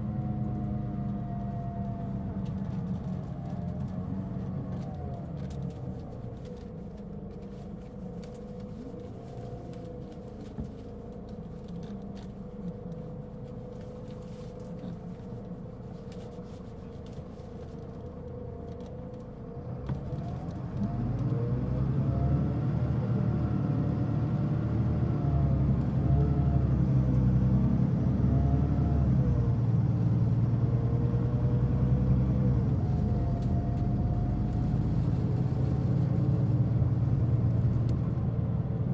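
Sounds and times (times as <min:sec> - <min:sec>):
bus diesel engine whining: 0:00.0 - 0:38.9.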